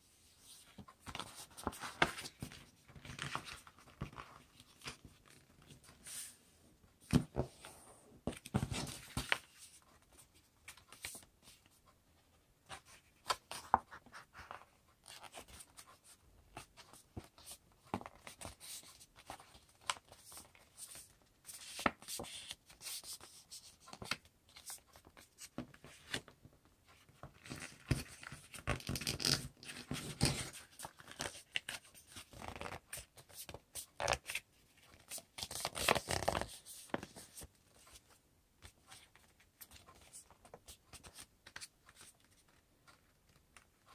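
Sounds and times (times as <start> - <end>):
paper folding and crinkling: 0.4 - 6.4, 7.1 - 11.7, 12.7 - 43.9.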